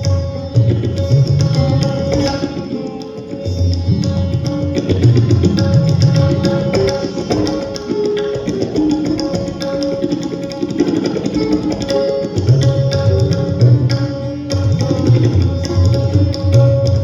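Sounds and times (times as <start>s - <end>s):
sarod melody: 0.0s - 17.0s
tabla strokes: 0.0s - 17.0s.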